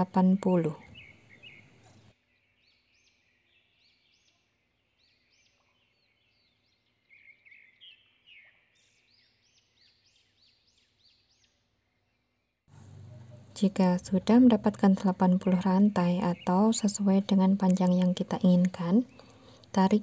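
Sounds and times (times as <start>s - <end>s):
faint bird chirps: 0.0s - 20.0s.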